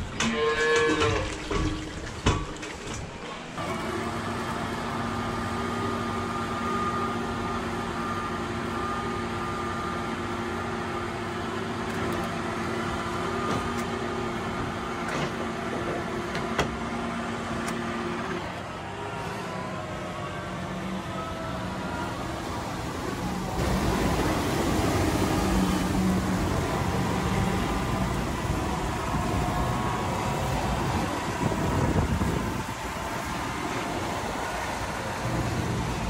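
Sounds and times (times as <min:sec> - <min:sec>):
machine cab hum and whine: 0:02.8 - 0:36.0.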